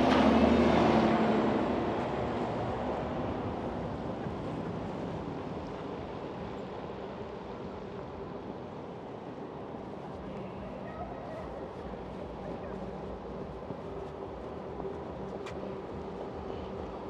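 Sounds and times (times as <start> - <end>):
traffic background rush: 0.0 - 17.0.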